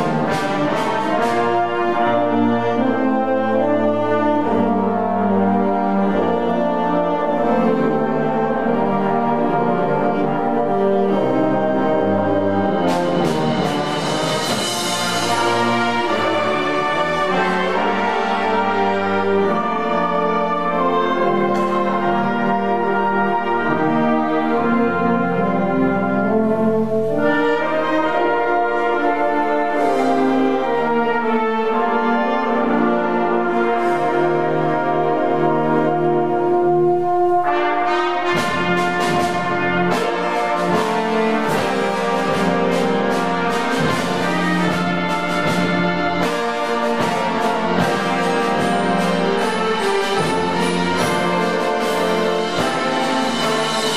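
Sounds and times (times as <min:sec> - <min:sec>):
concert band playing: 0:00.0 - 0:53.9.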